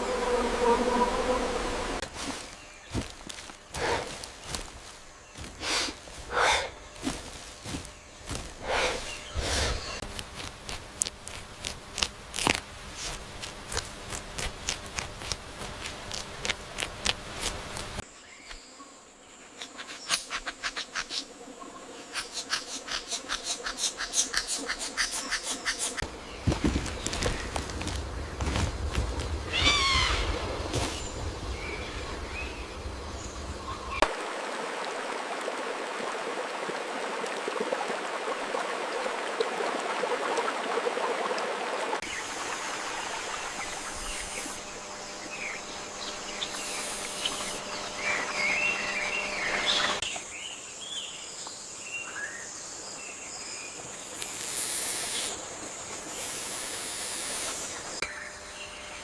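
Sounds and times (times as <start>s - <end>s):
insect noise: 0.0s - 59.0s.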